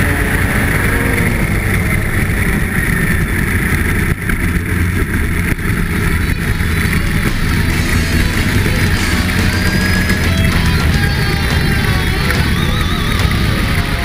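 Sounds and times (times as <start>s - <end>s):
snowmobile engine rumbling: 0.0s - 14.0s.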